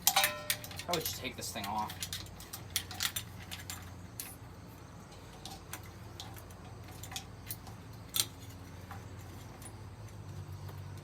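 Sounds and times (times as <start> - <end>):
small hard parts clicking: 0.0 - 11.0.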